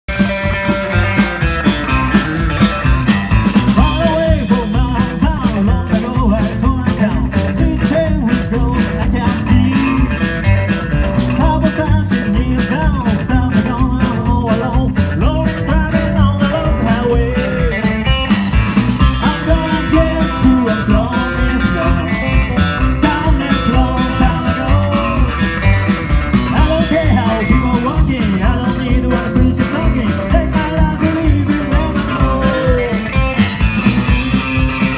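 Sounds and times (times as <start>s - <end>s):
rockabilly band playing: 0.0s - 34.9s.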